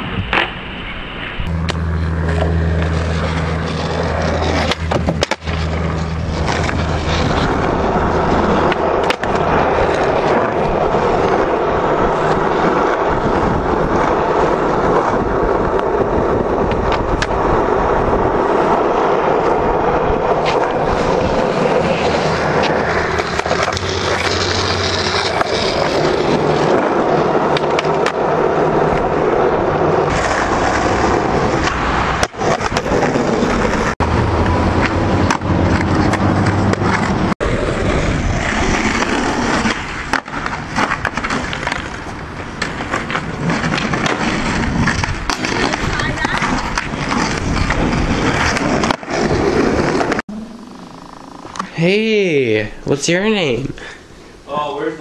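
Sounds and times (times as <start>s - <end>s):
skateboard wheels rolling on pavement: 0.0s - 55.0s
skateboard clacking: 1.6s - 50.2s.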